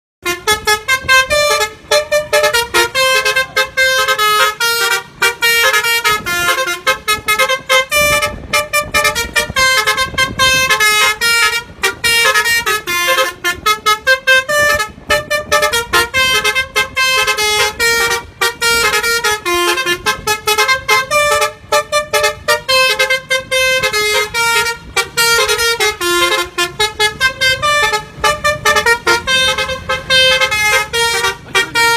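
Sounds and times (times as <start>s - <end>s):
musical bus horn jingle: 0.2s - 31.9s.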